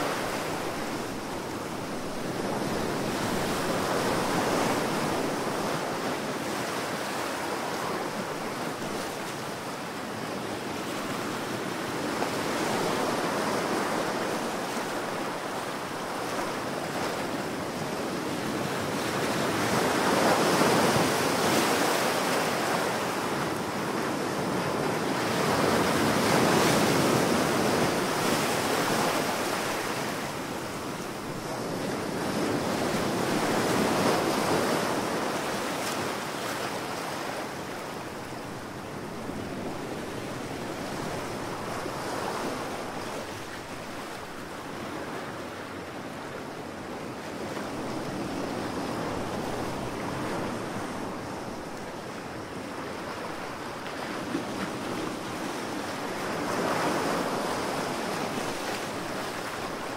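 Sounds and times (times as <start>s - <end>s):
waves breaking: 11.0s - 59.9s.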